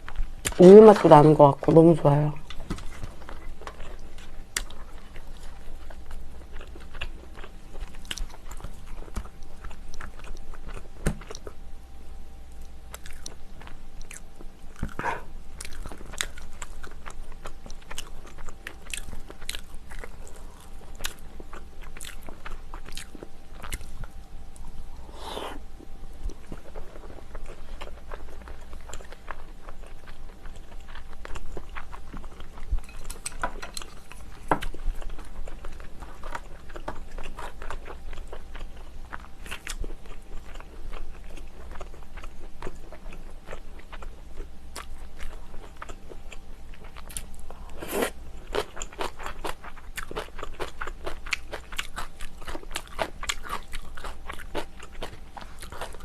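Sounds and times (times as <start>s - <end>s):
chewing and biting: 2.4s - 11.6s, 12.9s - 24.2s, 26.2s - 56.0s.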